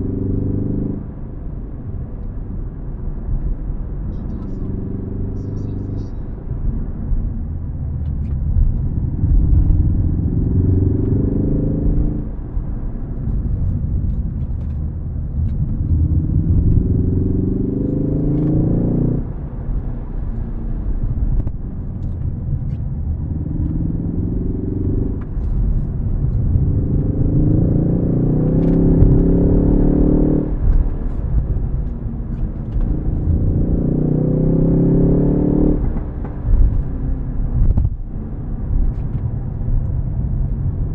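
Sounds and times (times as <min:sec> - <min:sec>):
car engine revving: 0:00.0 - 0:01.3, 0:03.3 - 0:40.9.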